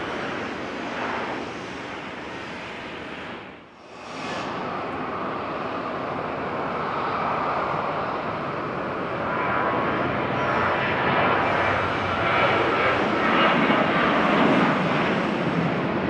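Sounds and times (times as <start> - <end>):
jet airliner engines: 0.0 - 16.0.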